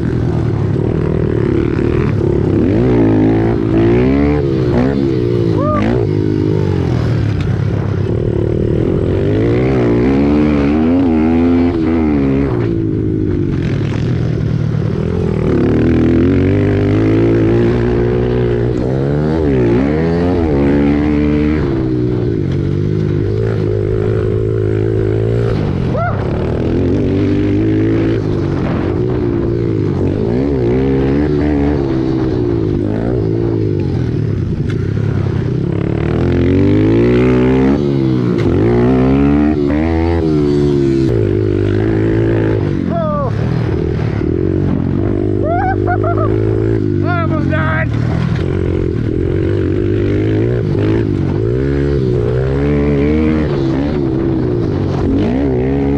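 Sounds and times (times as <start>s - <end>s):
pit bike engines revving: 0.0s - 55.9s.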